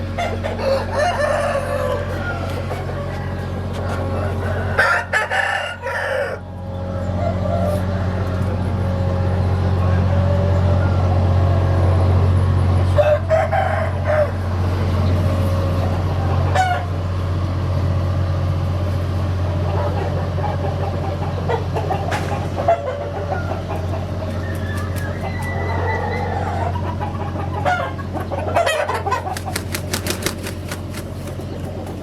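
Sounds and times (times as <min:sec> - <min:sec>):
roosters crowing: 0:00.0 - 0:12.2, 0:12.8 - 0:17.2, 0:19.7 - 0:32.0.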